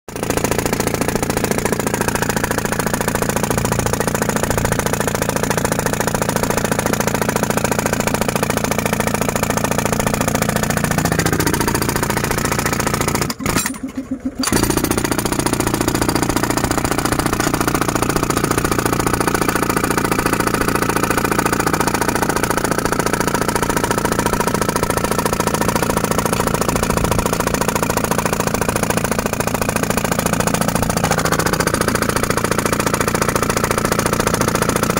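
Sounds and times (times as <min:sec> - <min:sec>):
jackhammer hammering into earth: 0:00.1 - 0:34.9.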